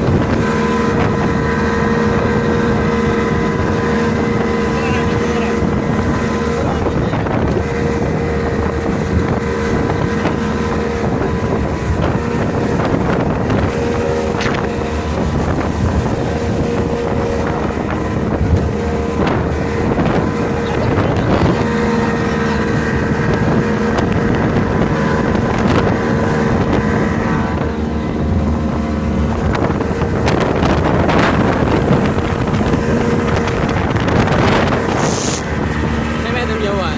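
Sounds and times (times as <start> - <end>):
motorboat engine humming: 0.0 - 36.9
wind buffeting microphone: 0.0 - 36.9.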